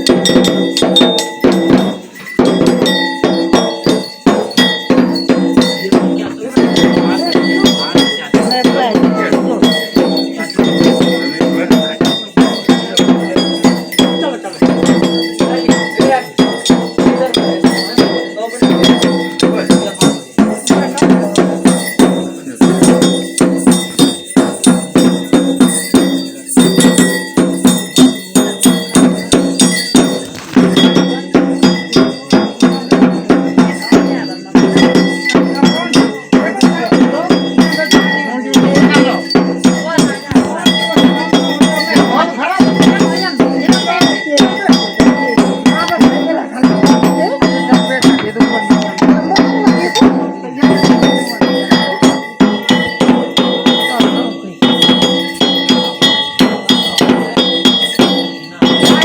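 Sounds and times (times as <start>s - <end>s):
metal bells struck: 0.0s - 59.0s.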